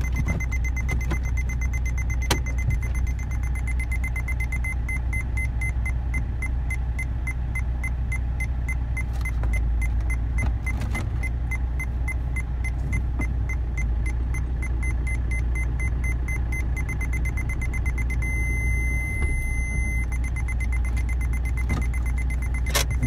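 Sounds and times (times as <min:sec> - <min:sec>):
car engine hum: 0:00.0 - 0:23.0
parking sensor beeping: 0:00.0 - 0:23.0.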